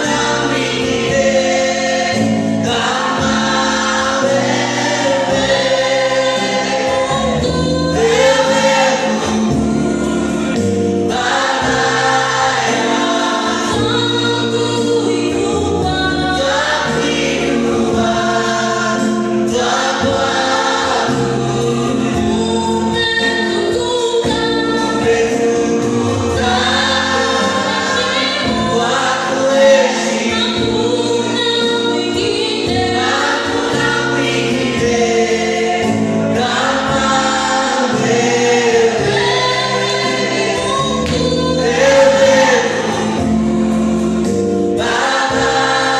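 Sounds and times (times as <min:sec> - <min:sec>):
gospel choir singing: 0:00.0 - 0:45.9
instrumental accompaniment: 0:00.0 - 0:45.9.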